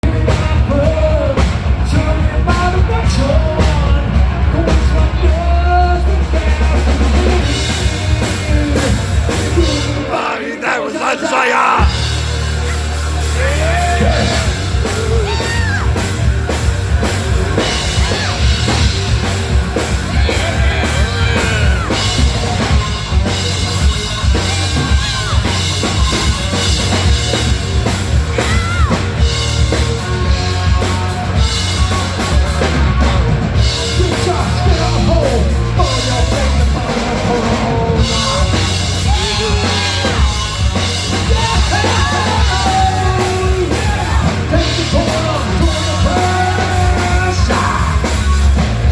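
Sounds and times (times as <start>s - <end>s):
distorted guitar: 0.0s - 48.9s
heavy bass: 0.0s - 48.9s
pounding drum kit: 0.0s - 48.9s
person singing and yelling: 4.6s - 16.2s, 17.5s - 48.9s.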